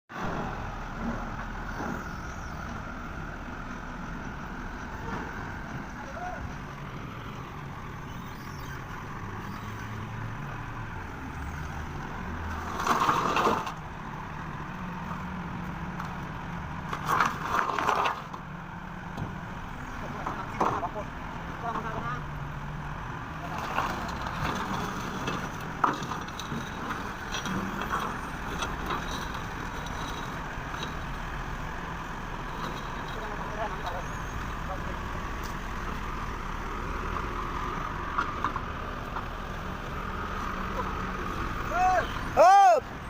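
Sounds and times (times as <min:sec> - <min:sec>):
heavy machine engine running: 0:00.2 - 0:42.4.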